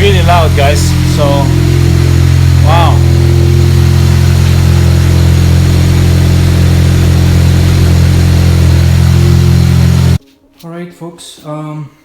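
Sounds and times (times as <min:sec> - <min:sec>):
loud car engine idling: 0:00.0 - 0:10.2.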